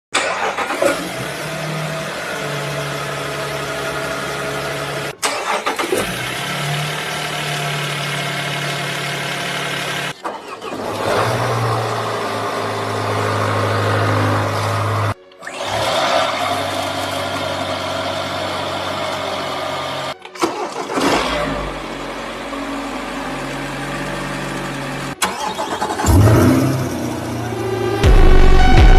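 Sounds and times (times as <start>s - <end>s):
diesel car engine starting and idling: 0.1s - 28.9s.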